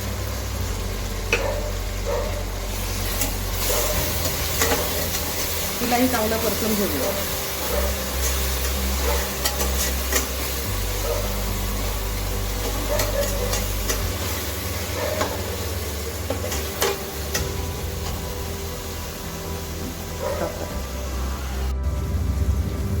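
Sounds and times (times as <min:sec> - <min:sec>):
paste sizzling in oil: 0:00.0 - 0:21.7.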